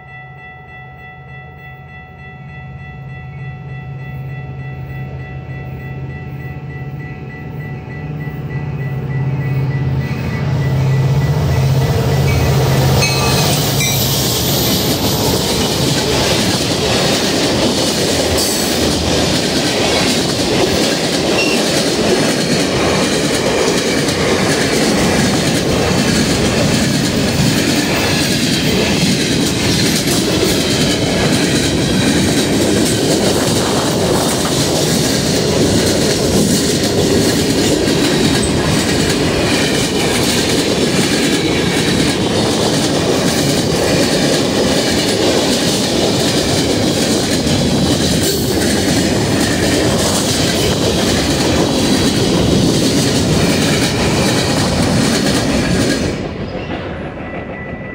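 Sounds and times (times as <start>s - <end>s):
train wheels rumbling on rail: 3.1s - 57.9s.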